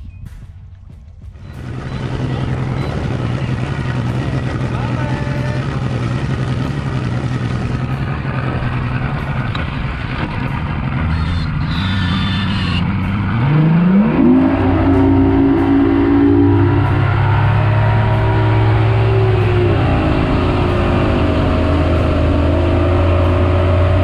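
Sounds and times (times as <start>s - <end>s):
steady rushing noise: 0.0s - 24.0s
outboard motor running: 1.3s - 24.0s.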